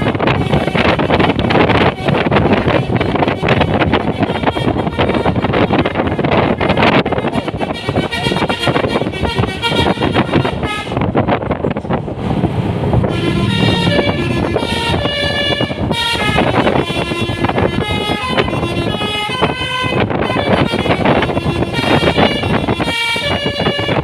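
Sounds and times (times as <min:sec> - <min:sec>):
multi-tone bus air horn tune: 0:00.0 - 0:11.7, 0:13.0 - 0:24.0
engine and road noise: 0:00.0 - 0:24.0.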